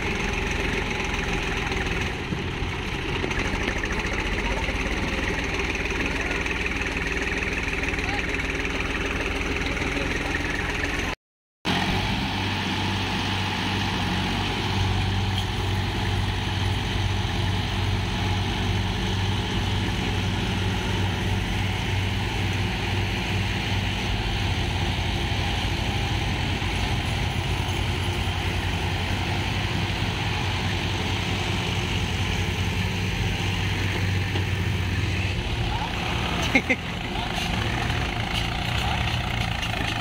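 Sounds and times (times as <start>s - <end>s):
tractor diesel engines running: 0.0s - 40.0s.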